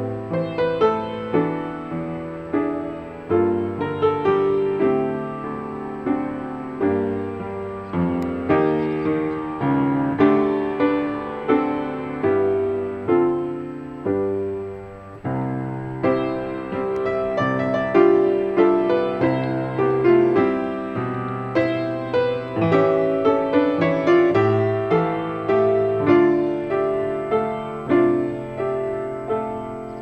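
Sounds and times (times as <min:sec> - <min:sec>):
solo piano melody: 0:00.0 - 0:30.0.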